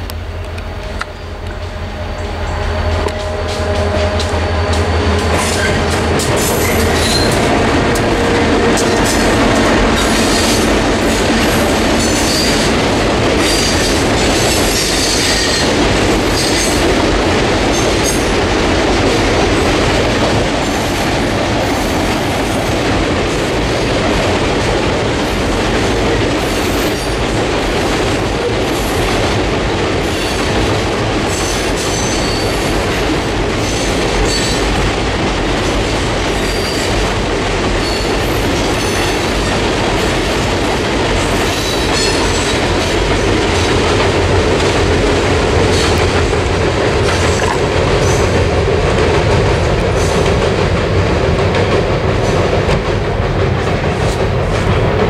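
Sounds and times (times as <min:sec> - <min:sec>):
train wheels rumbling and rattling: 0:00.0 - 0:55.0.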